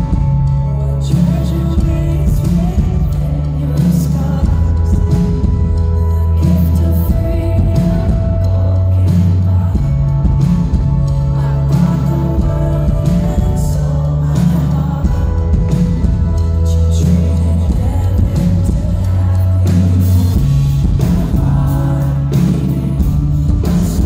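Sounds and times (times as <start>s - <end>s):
bass guitar: 0.0s - 24.0s
steady drum beat: 0.0s - 24.0s
woman singing into microphone: 0.8s - 24.0s.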